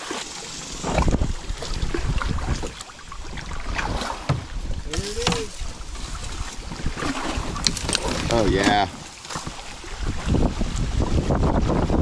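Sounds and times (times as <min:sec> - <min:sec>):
paddle splashing in water: 0:00.0 - 0:11.9
wind rumbling on microphone: 0:00.0 - 0:12.0.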